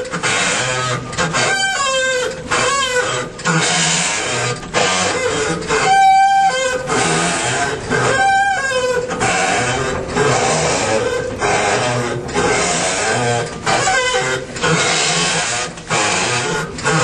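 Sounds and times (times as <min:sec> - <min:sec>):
washing machine whining: 0:00.0 - 0:17.0.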